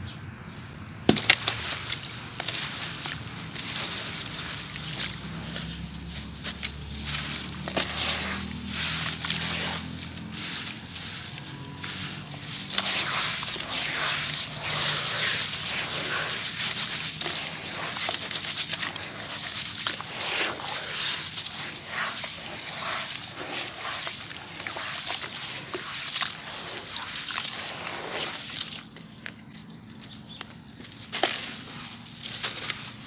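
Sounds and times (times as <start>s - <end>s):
gritty crackle of crumbling pieces: 0.8s - 33.0s.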